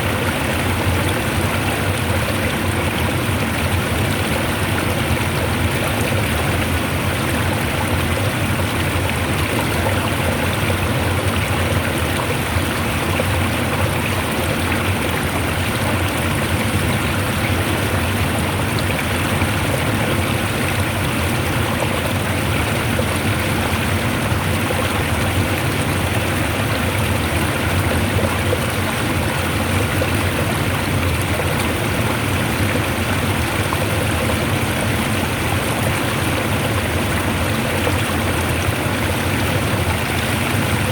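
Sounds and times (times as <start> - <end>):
fast-flowing water rushing: 0.0 - 40.9.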